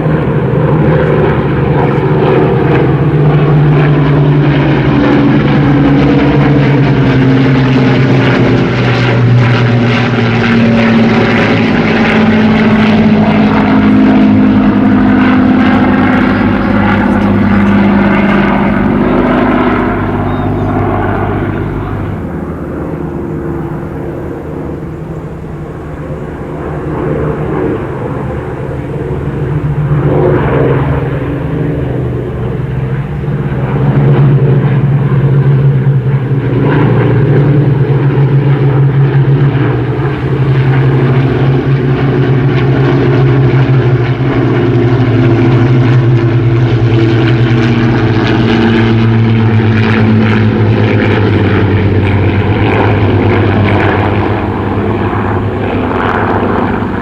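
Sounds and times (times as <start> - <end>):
propeller plane piston engines: 0.0 - 57.0.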